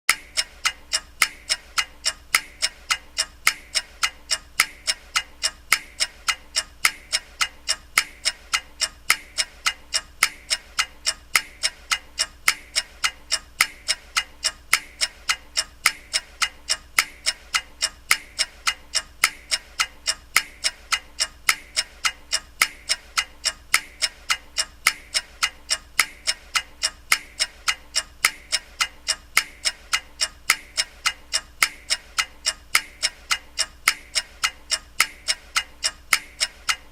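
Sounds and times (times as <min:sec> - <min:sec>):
clock ticking: 0:00.1 - 0:36.9.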